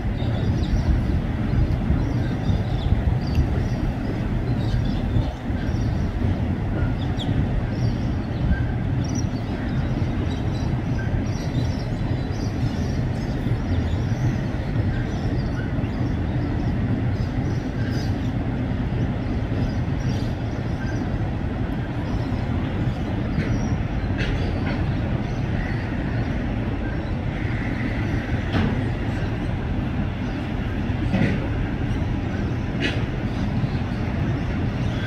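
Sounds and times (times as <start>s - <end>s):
train wheels rumbling on bridge: 0.0s - 35.0s.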